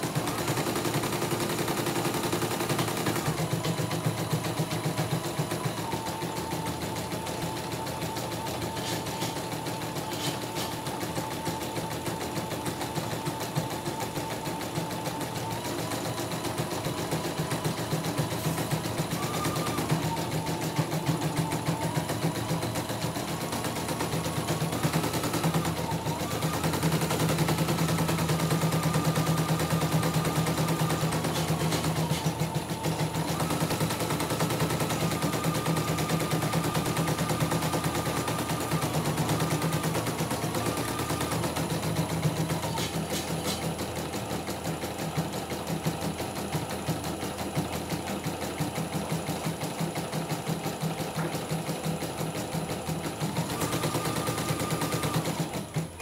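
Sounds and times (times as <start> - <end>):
embroidery machine stitching: 0.0 - 56.0.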